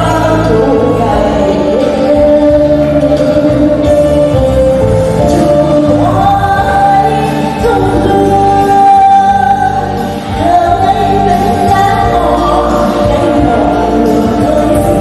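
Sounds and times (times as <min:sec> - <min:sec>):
musical accompaniment: 0:00.0 - 0:15.0
woman singing into a microphone: 0:00.0 - 0:15.0.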